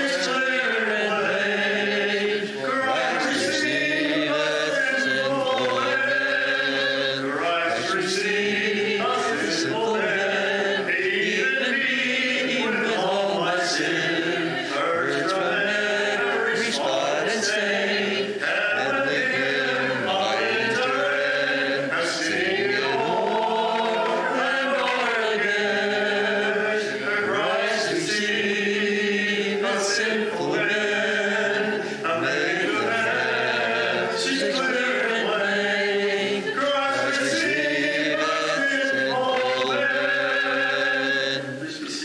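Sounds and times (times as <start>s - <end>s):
congregation singing a hymn: 0.0s - 42.0s.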